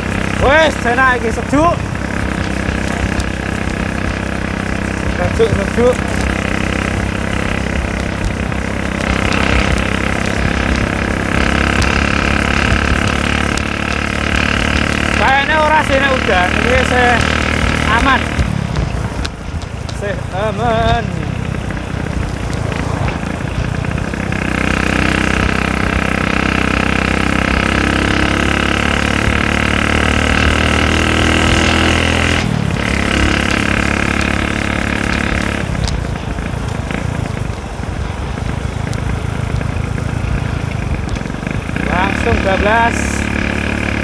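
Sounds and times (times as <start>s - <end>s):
motorcycle engine: 0.0s - 44.0s
wind and road noise: 0.0s - 44.0s.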